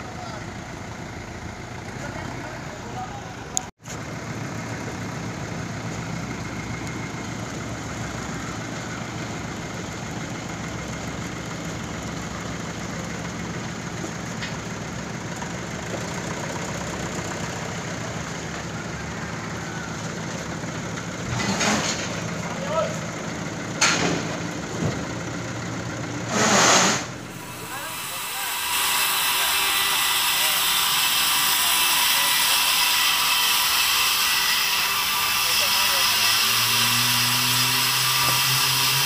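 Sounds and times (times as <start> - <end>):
heavy vehicle engine running: 0.0 - 39.0.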